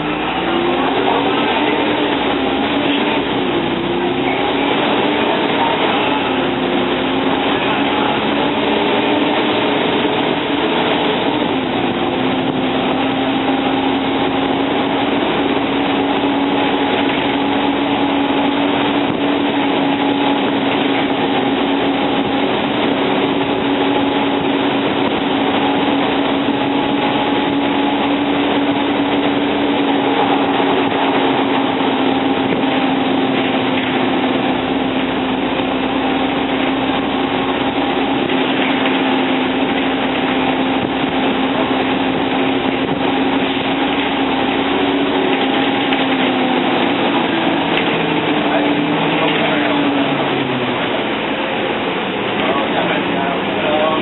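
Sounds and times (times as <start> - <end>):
diesel bus engine: 0.0 - 54.0.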